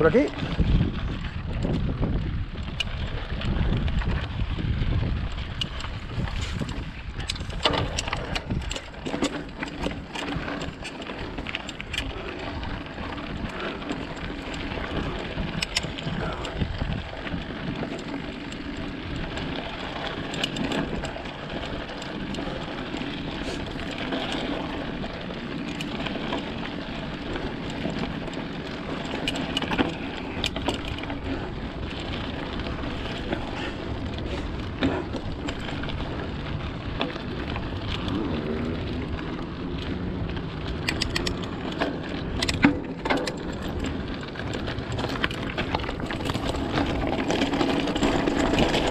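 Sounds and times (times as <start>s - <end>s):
bike rattling with clicks and knocks: 0.0s - 48.9s
bike tyres rolling on dirt: 0.0s - 48.9s
wind rumbling on microphone: 0.0s - 48.9s.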